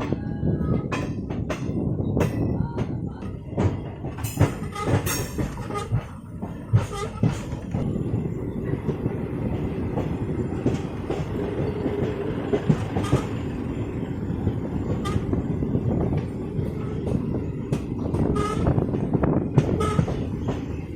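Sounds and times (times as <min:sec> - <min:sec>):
train wheels rumbling: 0:00.0 - 0:20.9
wheels knocking on rail joints: 0:00.0 - 0:20.9.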